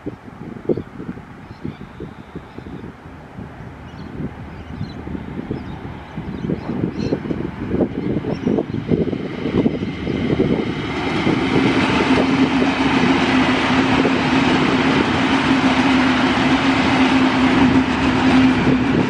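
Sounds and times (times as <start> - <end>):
train wheels rumbling on rails: 3.2 - 19.0.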